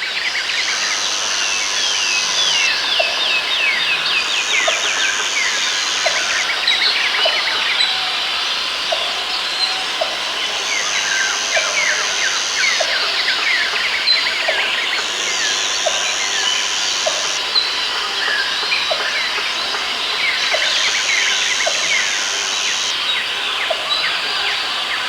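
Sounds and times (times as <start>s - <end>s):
high steady buzz: 0.2s - 25.0s.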